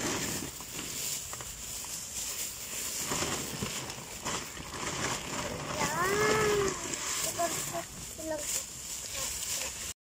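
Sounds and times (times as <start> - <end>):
plastic bags rustling and crinkling: 0.0 - 10.0.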